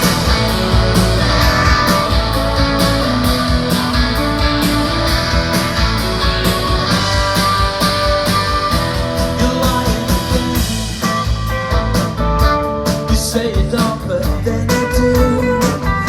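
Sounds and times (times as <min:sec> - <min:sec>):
drum beat: 0:00.0 - 0:14.0
bass: 0:00.0 - 0:16.0
strummed guitar: 0:00.0 - 0:16.0.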